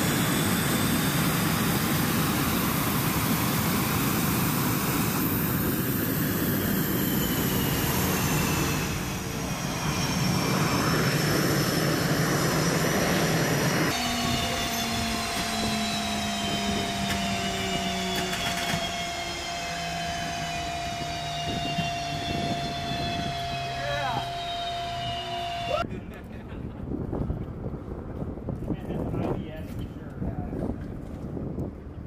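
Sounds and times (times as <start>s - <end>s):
jet engines rushing and whining: 0.0s - 32.0s.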